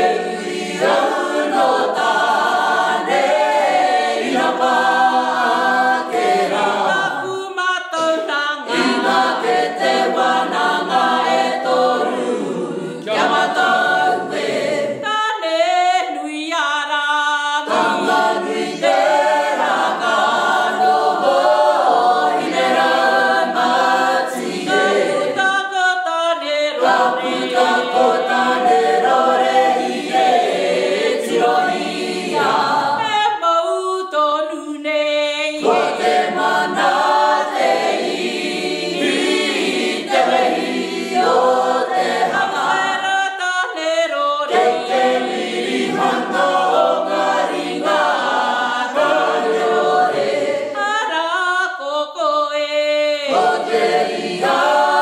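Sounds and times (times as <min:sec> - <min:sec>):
group singing unaccompanied: 0:00.0 - 0:55.0.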